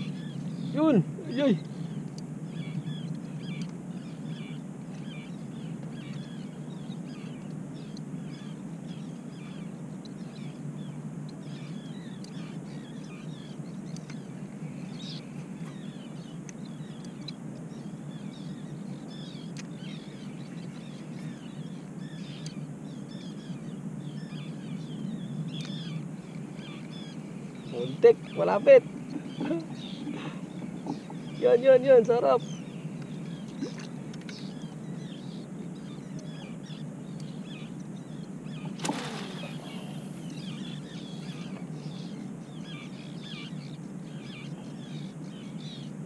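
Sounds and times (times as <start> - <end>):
seabirds calling: 0.0 - 46.0.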